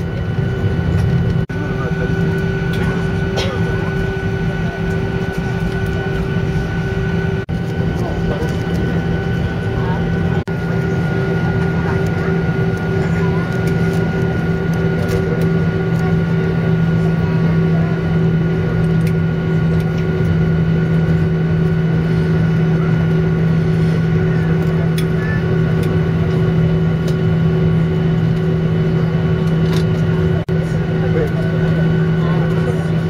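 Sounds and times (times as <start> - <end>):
airliner cabin engine hum: 0.0 - 33.0.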